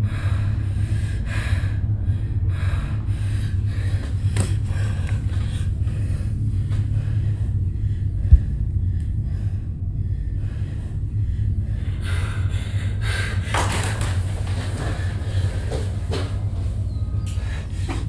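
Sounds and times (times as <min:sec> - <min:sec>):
low rumbling drone: 0:00.0 - 0:18.0
woman breathing: 0:00.0 - 0:18.0.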